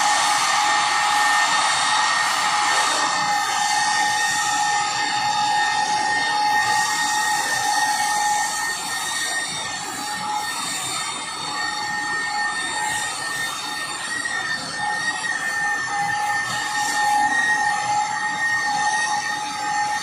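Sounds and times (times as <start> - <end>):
polisher motor whine: 0.0 - 20.0.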